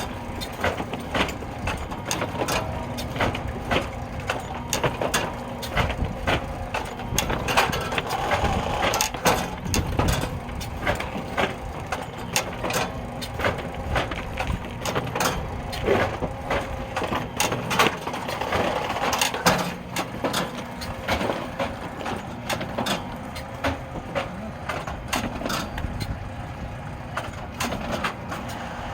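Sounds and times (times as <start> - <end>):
machine hum: 0.0 - 28.9.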